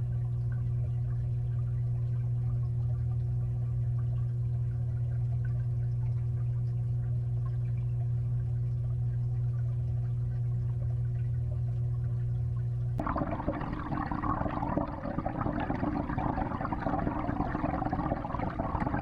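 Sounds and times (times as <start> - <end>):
aquarium pump motor hum: 0.0 - 19.0.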